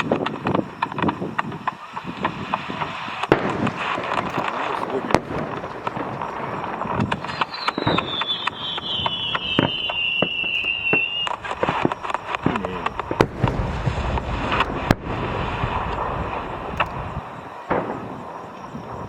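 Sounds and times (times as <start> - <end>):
falling firework whistle: 0.0 - 19.0
fireworks bangs and crackles: 0.0 - 19.0.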